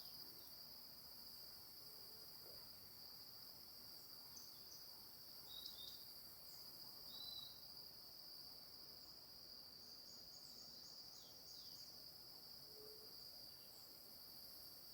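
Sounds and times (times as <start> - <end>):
high-pitched insect chorus: 2.7 - 14.9.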